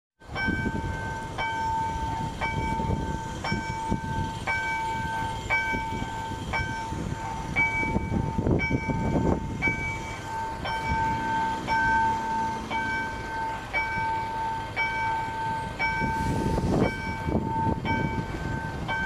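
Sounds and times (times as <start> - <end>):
level crossing warning bell: 0.2 - 19.0.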